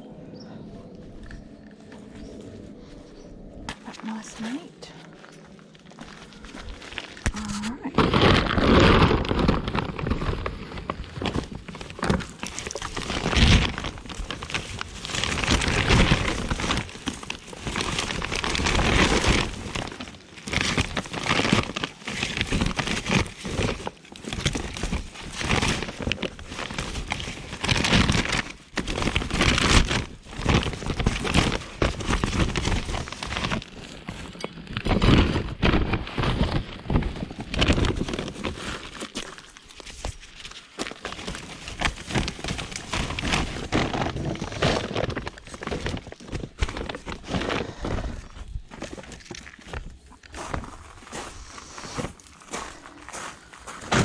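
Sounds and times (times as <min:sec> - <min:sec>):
rummaging through debris by hand: 0:03.7 - 0:54.0.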